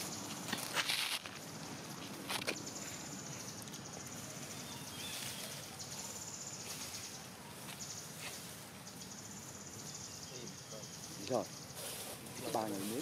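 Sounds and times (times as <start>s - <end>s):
low background hiss: 1.4s - 13.0s
faint bird chirps: 2.5s - 13.0s.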